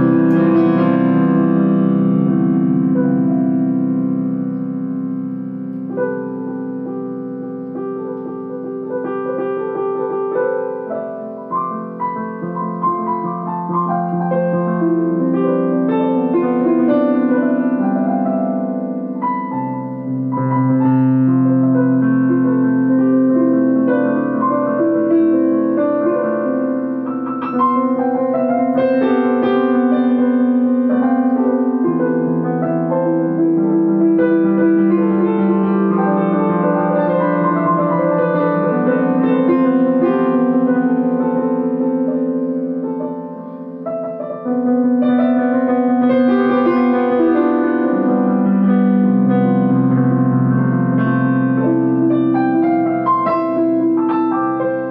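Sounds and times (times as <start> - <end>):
piano chords and melody: 0.0 - 54.9.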